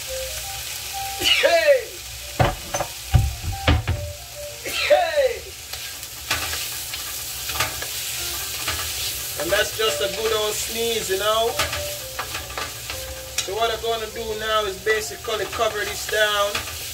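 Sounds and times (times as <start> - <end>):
vegetables sizzling in a wok: 0.0 - 16.9.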